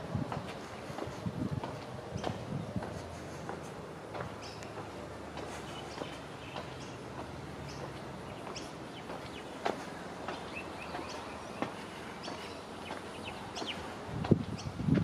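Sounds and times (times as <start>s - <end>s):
low outdoor background: 0.0s - 15.0s
birds chirping: 0.3s - 14.9s.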